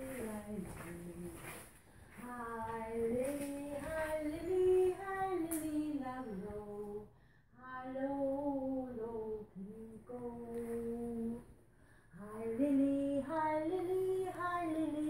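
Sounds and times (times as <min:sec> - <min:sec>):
woman singing wordless tune: 0:00.0 - 0:15.0.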